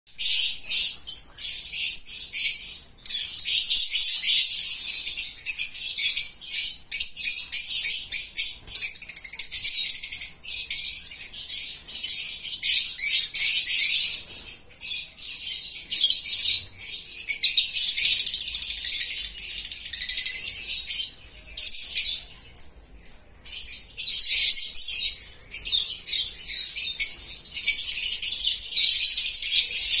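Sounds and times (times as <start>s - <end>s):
birds chirping: 0.1s - 30.0s.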